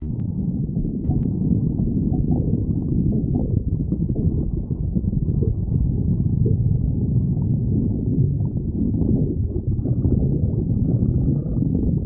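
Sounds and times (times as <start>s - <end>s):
stomach growling: 0.0s - 12.0s.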